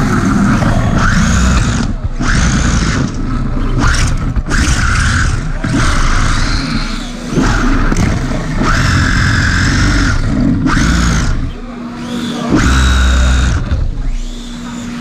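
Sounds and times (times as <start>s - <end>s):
car rumbling over concrete: 0.0s - 15.0s
electric motor whining: 0.0s - 15.0s.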